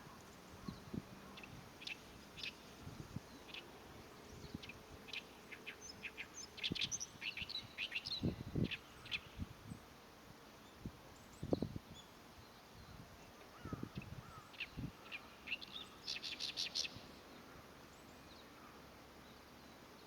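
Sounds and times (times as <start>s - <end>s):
reed warbler chattering song: 0.0s - 20.0s.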